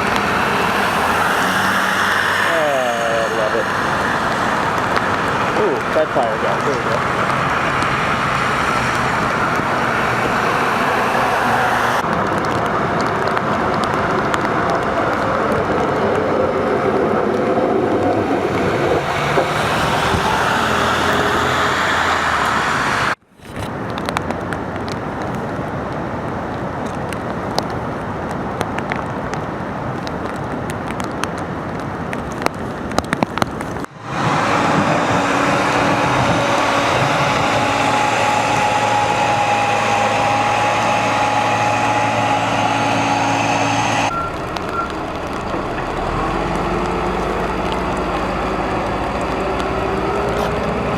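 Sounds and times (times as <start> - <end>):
trucks and heavy equipment running: 0.0 - 23.9, 32.2 - 50.9.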